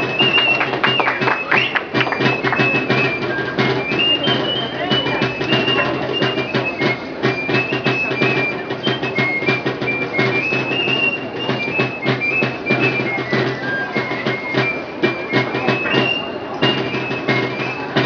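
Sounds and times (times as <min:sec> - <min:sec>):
high flute melody: 0:00.0 - 0:18.0
sharp percussive strikes: 0:00.0 - 0:18.0.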